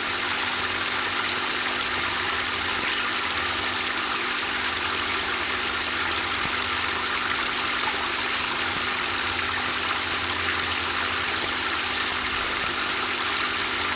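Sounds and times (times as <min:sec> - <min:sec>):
water running and splashing: 0:00.0 - 0:13.9.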